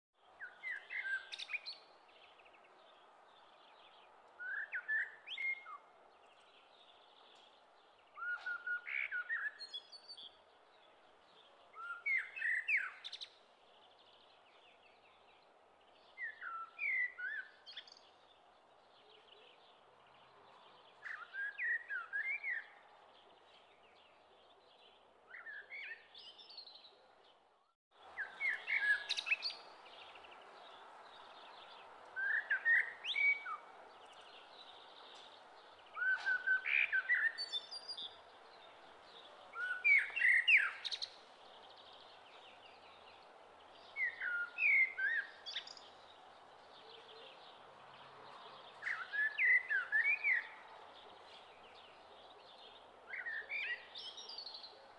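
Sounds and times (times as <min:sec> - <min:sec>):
songbird chirping: 0:00.2 - 0:54.9.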